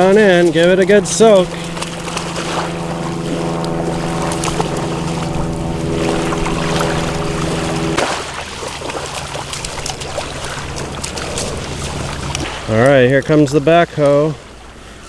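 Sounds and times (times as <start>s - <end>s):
steady motor hum: 0.0s - 15.0s.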